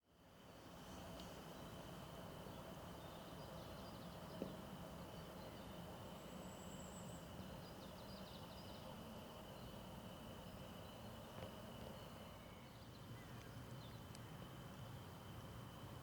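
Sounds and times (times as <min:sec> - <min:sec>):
steady hiss: 0:00.1 - 0:16.0
distant birds calling: 0:00.5 - 0:15.1.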